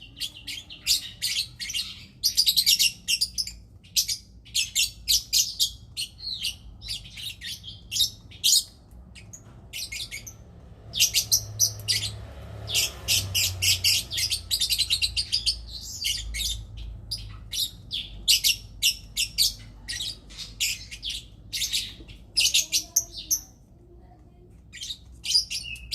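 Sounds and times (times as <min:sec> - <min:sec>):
lovebirds chirping: 0:00.0 - 0:25.9.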